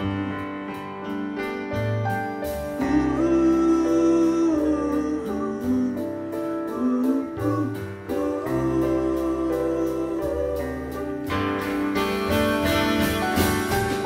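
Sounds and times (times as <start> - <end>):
live band playing slow song: 0.0 - 14.0.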